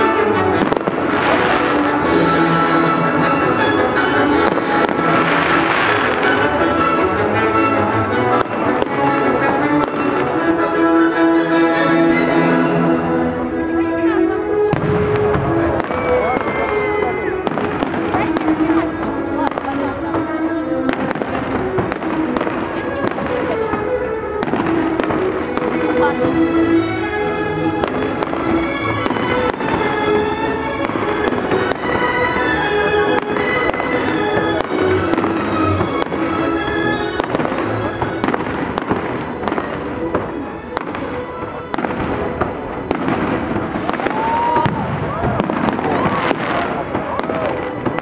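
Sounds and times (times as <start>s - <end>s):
fireworks bangs and crackling: 0.0s - 10.9s, 12.2s - 48.0s
music playing: 0.0s - 48.0s.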